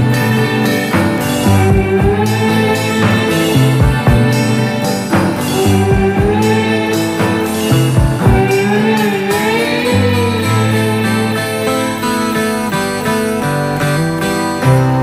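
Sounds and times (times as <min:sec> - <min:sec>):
guitar-led background music: 0:00.0 - 0:15.0.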